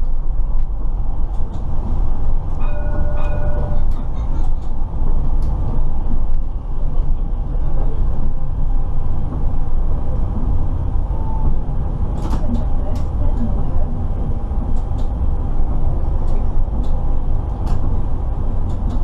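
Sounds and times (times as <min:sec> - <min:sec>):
rumble of wheels on rail: 0:00.0 - 0:19.0.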